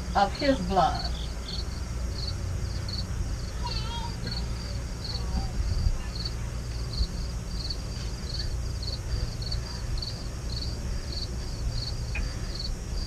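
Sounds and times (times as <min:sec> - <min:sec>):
insects chirping: 0:00.0 - 0:13.0
low steady rumble: 0:00.0 - 0:13.0.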